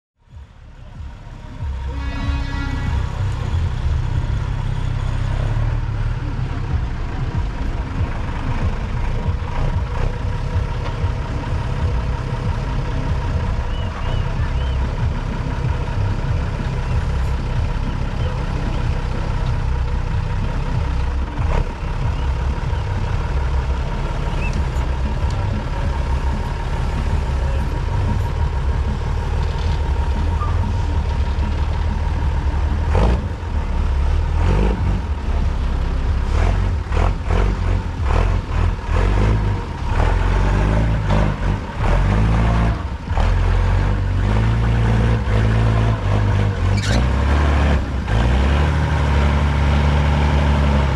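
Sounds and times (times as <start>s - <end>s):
truck engine labouring and revving: 0.2s - 50.9s.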